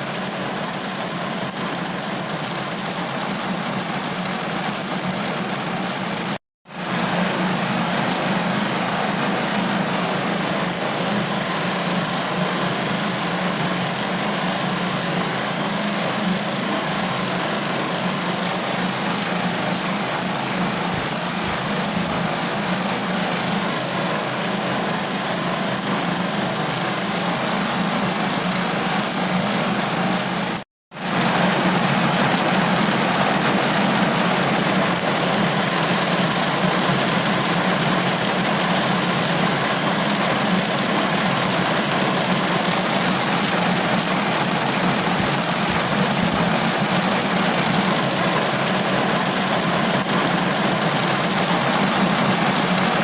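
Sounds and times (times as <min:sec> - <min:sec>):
heavy rain on a car roof: 0:00.0 - 0:53.0.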